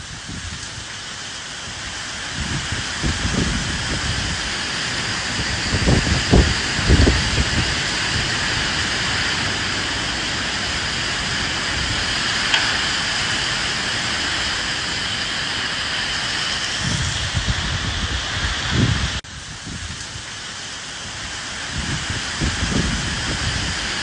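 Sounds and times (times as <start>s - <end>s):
low wind gusts: 0.0s - 24.0s
steady rain: 0.0s - 24.0s.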